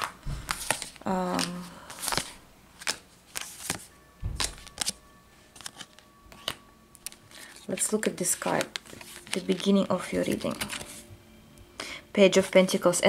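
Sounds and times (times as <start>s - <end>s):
cards rustling and tapping: 0.0s - 11.1s.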